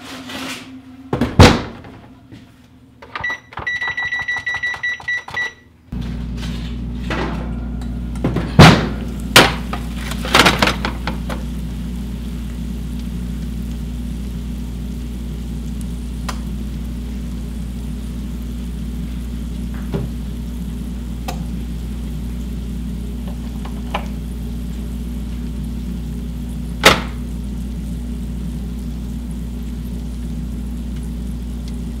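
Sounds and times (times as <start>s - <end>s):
steady low hum: 5.9s - 32.0s.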